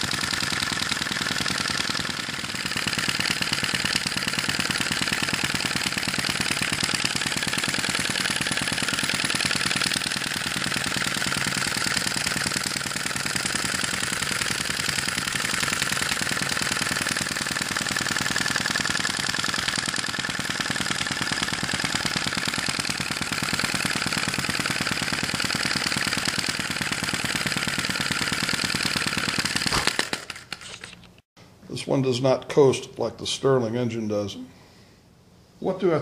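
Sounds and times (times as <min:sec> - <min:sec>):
model engine clattering: 0:00.0 - 0:31.2.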